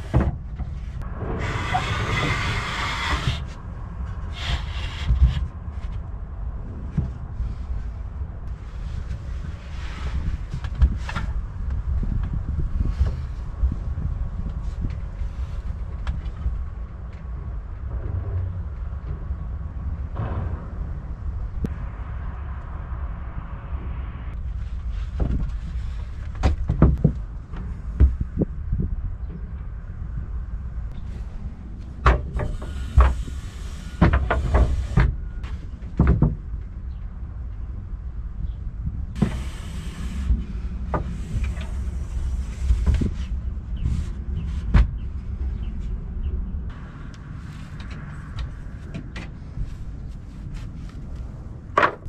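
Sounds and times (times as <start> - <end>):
steady low rumble: 0.0 - 52.0
wind buffeting microphone: 0.0 - 52.0.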